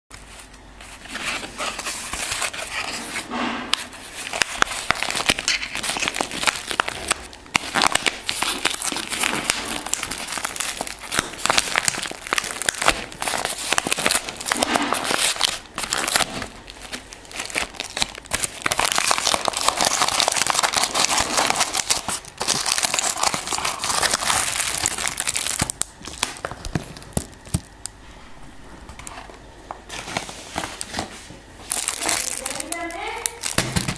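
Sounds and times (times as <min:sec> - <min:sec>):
padded envelope tearing and crinkling: 0:00.2 - 0:27.8, 0:29.9 - 0:33.9.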